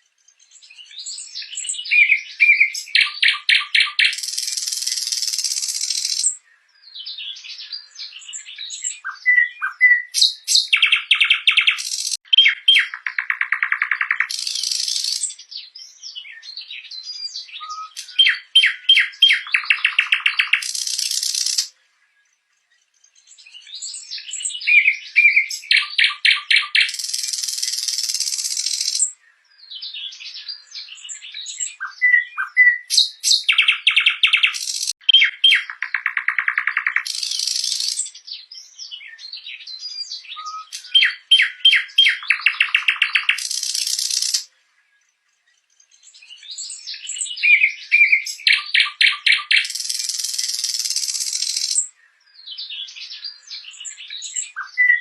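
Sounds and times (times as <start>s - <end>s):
nightingale singing: 0.0s - 55.0s.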